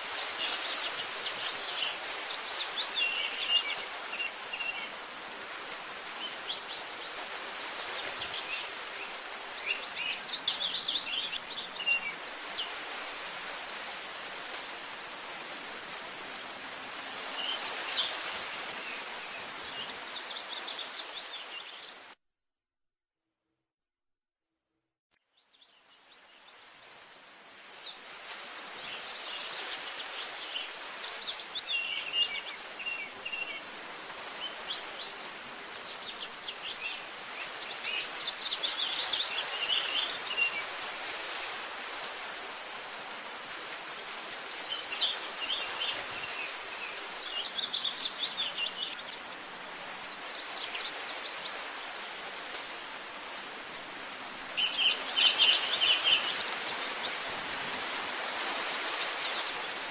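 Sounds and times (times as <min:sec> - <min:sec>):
steady outdoor hiss: 0:00.0 - 0:22.1, 0:25.4 - 0:59.9.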